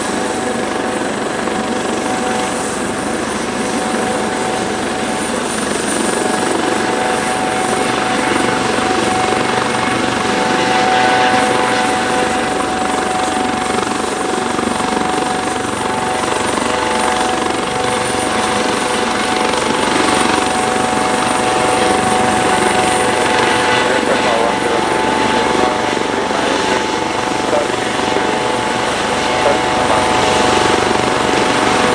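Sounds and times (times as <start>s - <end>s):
helicopter rotors: 0.0s - 31.9s
turbine whine: 0.0s - 31.9s.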